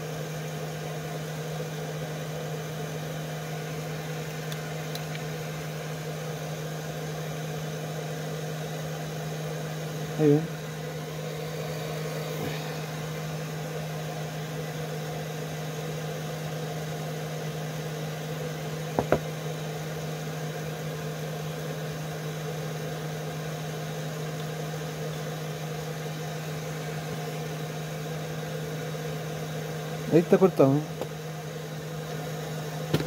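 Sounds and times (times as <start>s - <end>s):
low electric motor hum: 0.0s - 33.0s.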